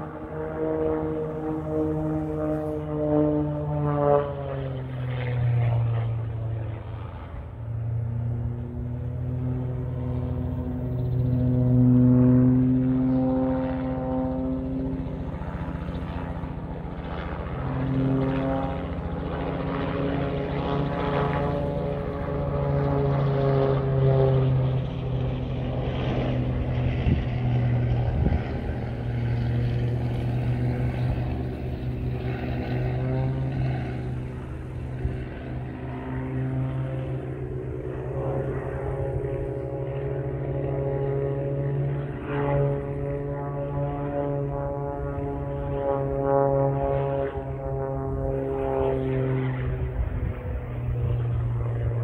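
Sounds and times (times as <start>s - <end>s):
propeller plane engine drone: 0.0s - 52.0s.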